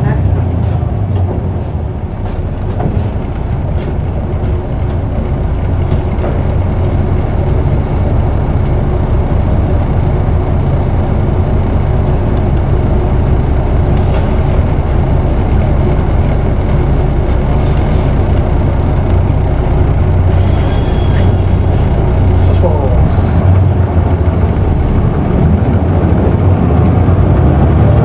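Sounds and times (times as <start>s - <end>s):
bus diesel engine from inside: 0.0s - 28.0s.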